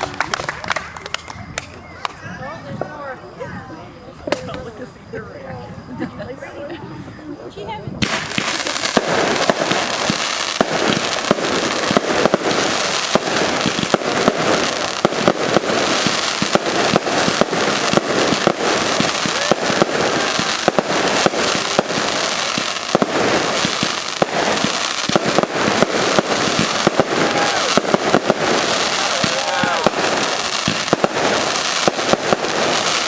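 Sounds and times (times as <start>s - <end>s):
fireworks bangs: 0.0s - 6.0s, 7.3s - 33.0s
fireworks crackling: 0.0s - 33.0s.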